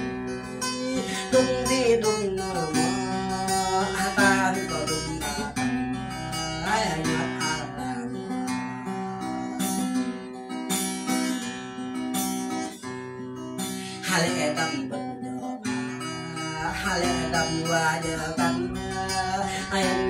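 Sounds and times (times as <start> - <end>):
person singing: 0.0 - 9.8, 13.7 - 20.0
acoustic guitar strumming: 0.0 - 20.0.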